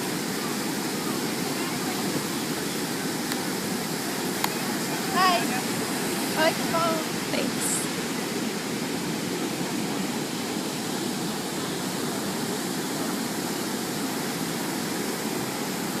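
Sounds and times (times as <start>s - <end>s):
ocean surf on a beach: 0.0s - 16.0s.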